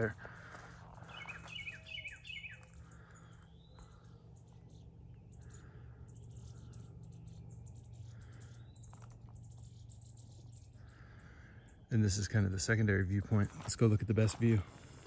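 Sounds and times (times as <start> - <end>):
bird chirps: 0.0 - 13.6.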